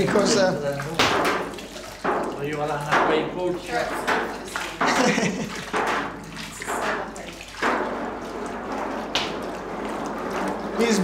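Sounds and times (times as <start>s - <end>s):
curd and whey sloshing: 0.0s - 11.0s.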